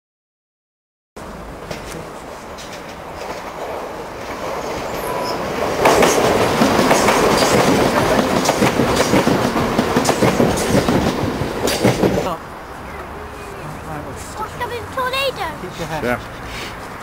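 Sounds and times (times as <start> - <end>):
steam locomotive working uphill: 1.2 - 15.8.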